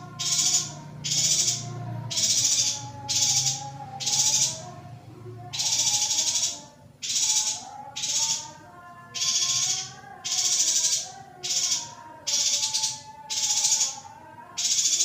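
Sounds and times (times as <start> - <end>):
harsh buzzy bird calls: 0.0 - 15.0.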